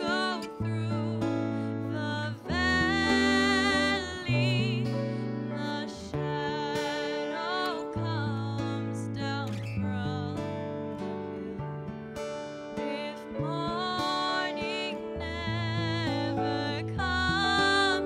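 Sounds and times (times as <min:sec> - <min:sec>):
woman singing with vibrato: 0:00.0 - 0:11.6, 0:12.8 - 0:18.0
strummed acoustic guitar: 0:00.0 - 0:18.0.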